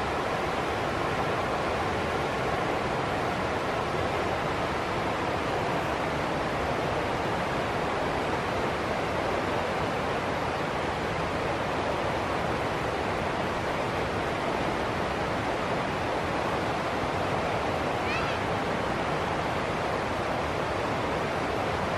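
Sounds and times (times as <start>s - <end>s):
stream rushing over rocks: 0.0s - 21.9s.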